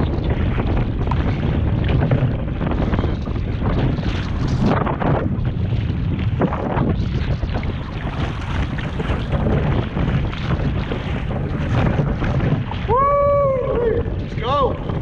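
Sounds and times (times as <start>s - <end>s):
paddle strokes splashing water: 0.0s - 15.0s
wind buffeting microphone: 0.0s - 15.0s.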